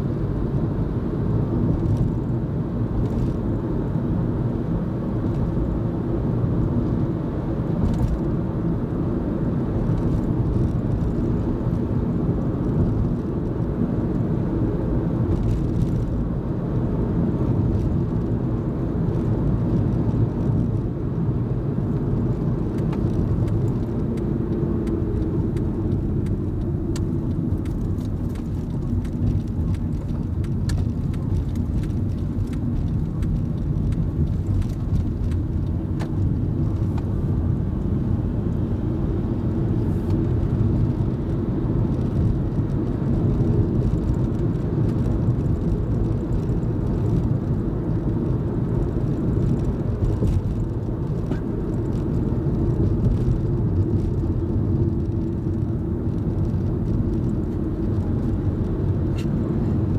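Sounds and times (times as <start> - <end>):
car engine rumble: 0.0 - 59.9
tyres on road: 0.0 - 59.9.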